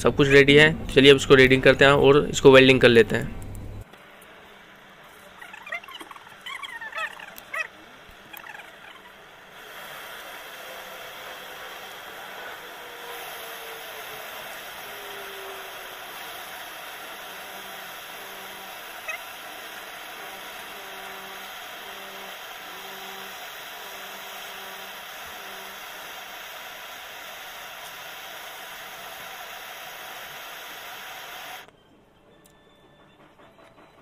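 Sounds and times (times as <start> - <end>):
gas torch flame hissing: 3.9 - 31.7.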